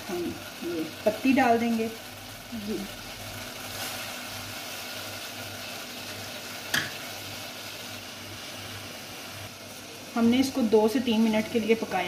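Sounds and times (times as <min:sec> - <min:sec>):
water boiling in saucepan: 0:00.0 - 0:12.0.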